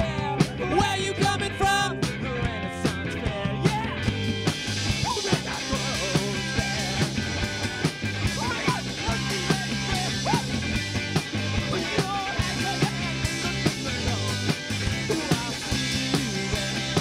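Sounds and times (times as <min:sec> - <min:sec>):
distorted electric guitars: 0:00.0 - 0:17.0
drum beat: 0:00.0 - 0:17.0.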